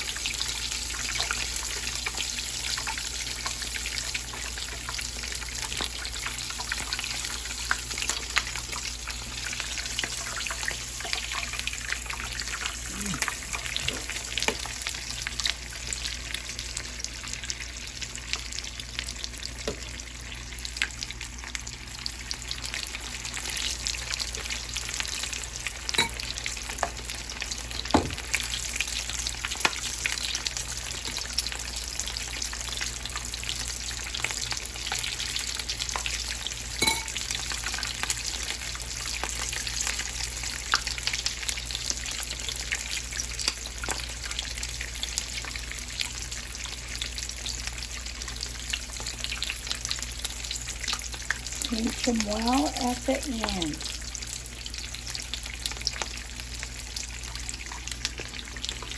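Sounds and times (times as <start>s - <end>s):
food deep-frying in hot oil: 0.0s - 58.9s.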